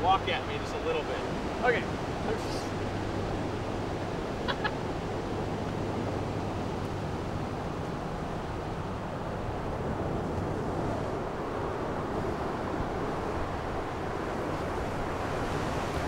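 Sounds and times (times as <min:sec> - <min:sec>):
ocean surf: 0:00.0 - 0:16.0.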